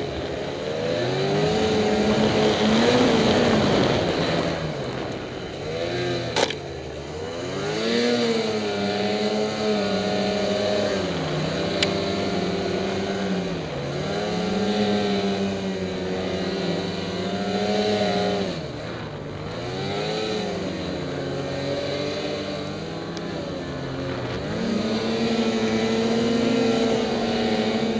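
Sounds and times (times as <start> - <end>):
snowmobile engine revving: 0.0 - 27.9.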